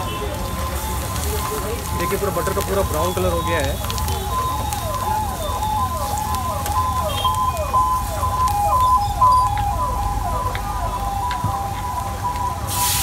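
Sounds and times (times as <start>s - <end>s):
onions sizzling in butter: 0.0s - 13.0s
electronic siren sweeps: 0.5s - 13.0s.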